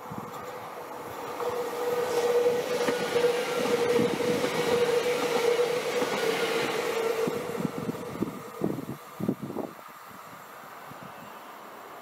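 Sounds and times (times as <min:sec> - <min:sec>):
train wheels running over track: 0:00.0 - 0:09.7.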